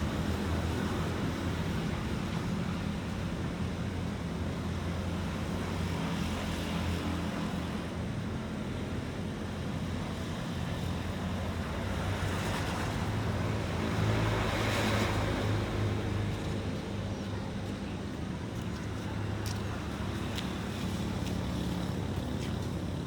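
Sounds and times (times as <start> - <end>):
road traffic drone: 0.0 - 23.0.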